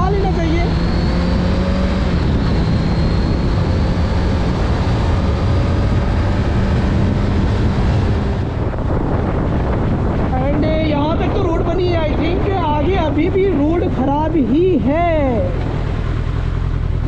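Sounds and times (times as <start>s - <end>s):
motorcycle engine cruising: 0.0s - 17.0s
wind and road rush: 0.0s - 17.0s.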